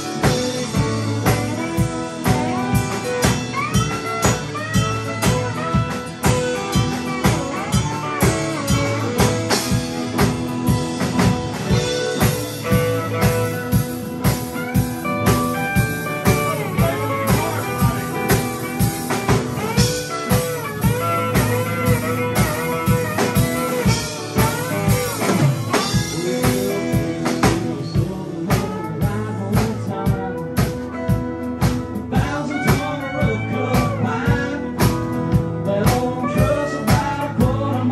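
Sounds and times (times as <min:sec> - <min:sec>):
drum kit beat: 0:00.0 - 0:37.9
electric guitar lead with bent notes: 0:00.0 - 0:37.9
strummed acoustic guitar: 0:00.0 - 0:37.9.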